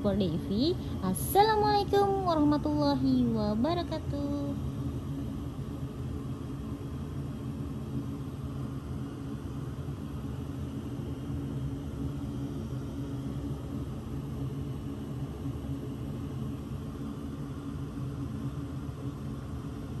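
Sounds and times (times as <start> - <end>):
low droning hum with hiss: 0.0 - 20.0.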